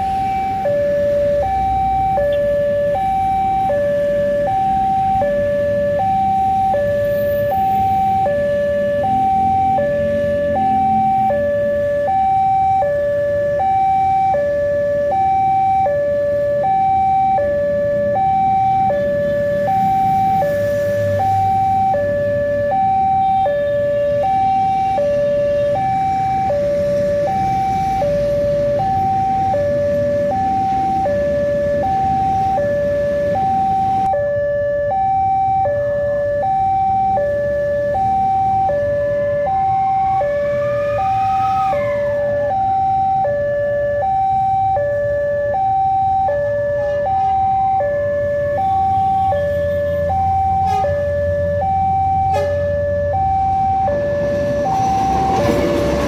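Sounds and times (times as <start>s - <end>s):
two-tone crossing alarm chime: 0.0s - 41.2s, 41.8s - 56.0s
road traffic: 0.0s - 56.0s.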